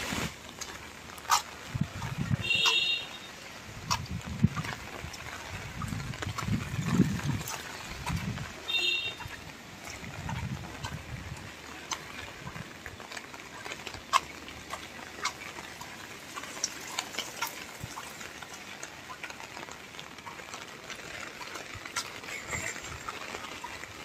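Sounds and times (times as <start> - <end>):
rain hissing: 0.0 - 24.0
sharp drip ticks: 0.5 - 24.0.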